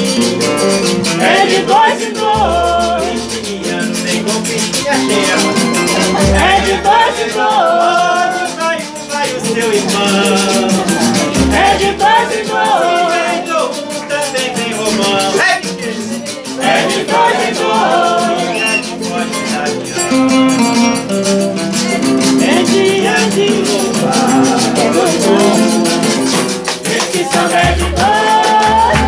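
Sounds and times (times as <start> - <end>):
plucked string instrument: 0.0 - 29.0
rattling percussion beat: 0.0 - 29.0
strummed small guitar: 0.0 - 29.0
men singing together: 0.8 - 20.3, 22.0 - 29.0.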